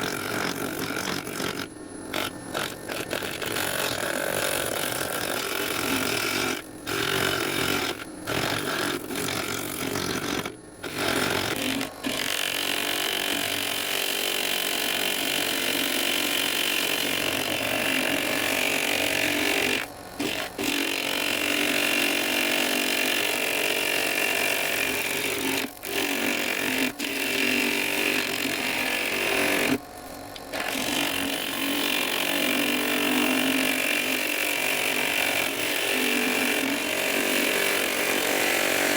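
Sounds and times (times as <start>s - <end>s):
wood lathe turning tool scraping: 0.0s - 29.8s, 30.6s - 38.9s.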